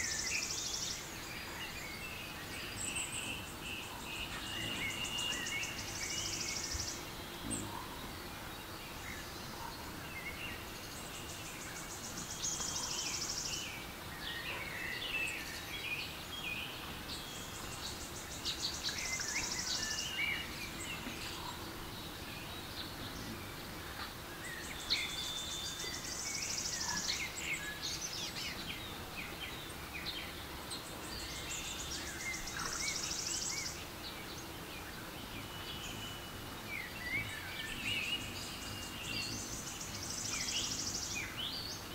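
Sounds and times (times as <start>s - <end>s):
birds chirping and whistling: 0.0s - 8.1s, 9.1s - 41.9s
background hiss: 0.0s - 41.9s.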